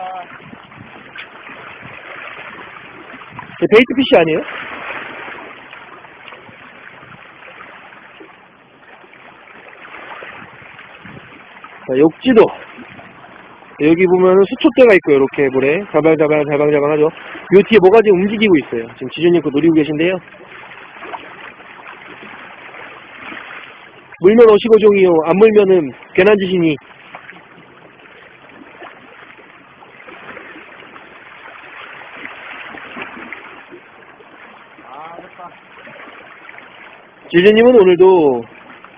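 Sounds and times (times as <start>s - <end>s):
waves lapping on rocky shore: 0.0s - 38.9s.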